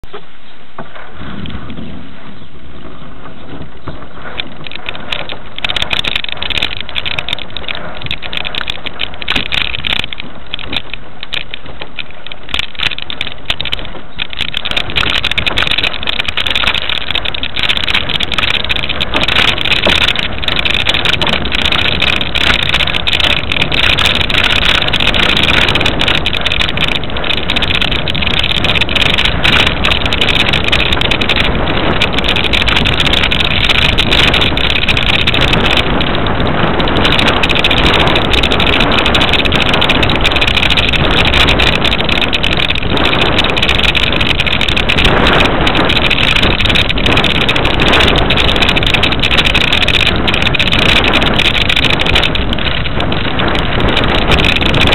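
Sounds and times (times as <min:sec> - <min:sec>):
tyres rolling in snow: 0:00.0 - 0:54.9
body rattling clicks: 0:03.8 - 0:54.9.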